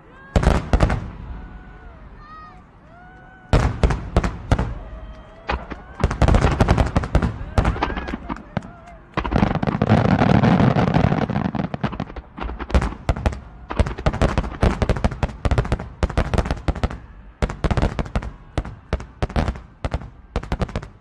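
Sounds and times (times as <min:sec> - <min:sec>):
fireworks bursting: 0:00.3 - 0:01.6, 0:03.5 - 0:21.0.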